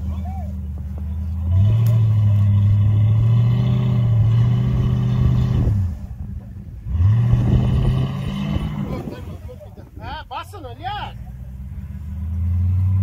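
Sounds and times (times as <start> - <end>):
truck engine revving high: 0.0 - 9.9, 10.7 - 13.0.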